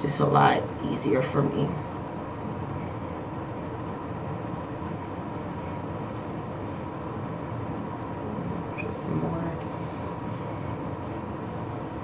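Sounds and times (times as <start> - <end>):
constant hum and hiss: 0.0 - 12.0.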